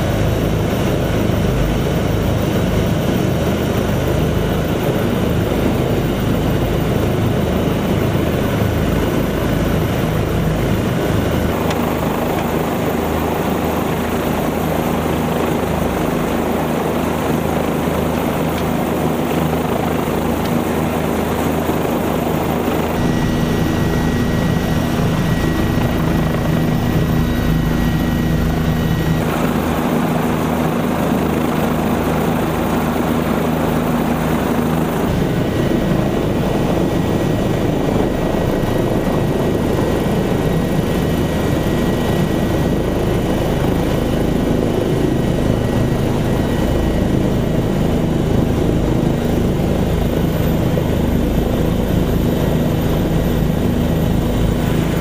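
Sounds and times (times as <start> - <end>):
helicopter rotor noise: 0.0 - 55.0
high turbine whine: 0.0 - 55.0.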